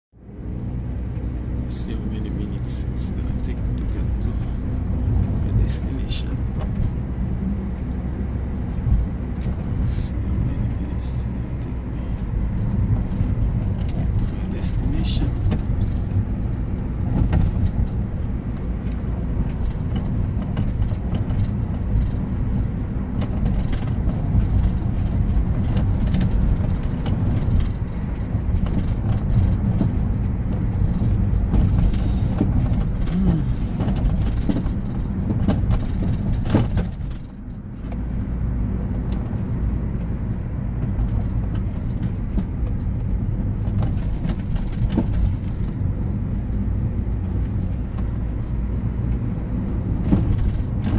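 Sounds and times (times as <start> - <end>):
car engine and tyres on wet road: 0.2 - 50.9.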